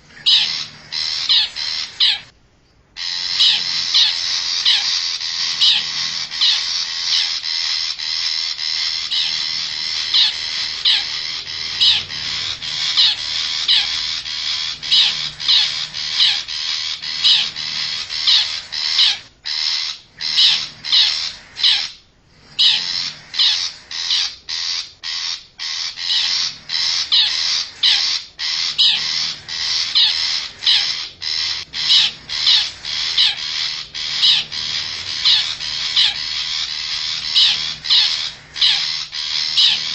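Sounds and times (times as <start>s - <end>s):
background chirping: 0.0s - 39.9s
harsh bird calls: 0.0s - 39.9s.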